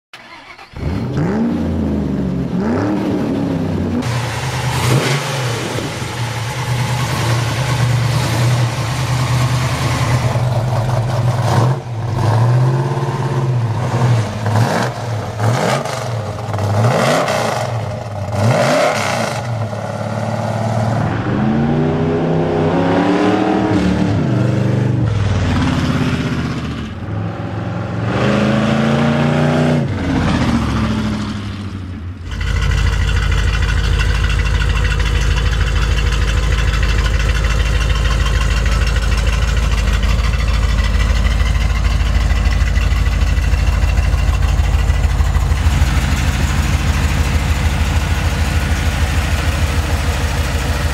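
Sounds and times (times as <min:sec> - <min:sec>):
car engine idling and revving: 0:00.2 - 0:50.9.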